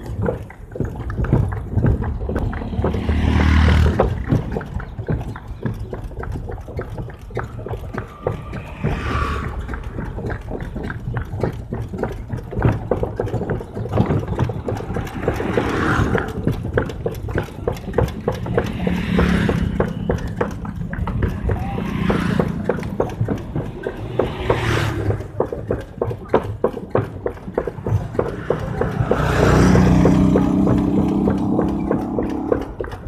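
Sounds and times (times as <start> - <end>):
cart wheels rumbling: 0.0 - 33.0
horse hooves clip-clopping on pavement: 0.0 - 33.0
wooden cart rattling: 0.0 - 33.0.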